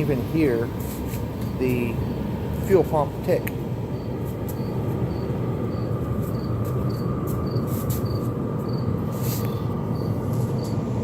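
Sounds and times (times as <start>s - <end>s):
air heater blower running: 0.0s - 11.0s.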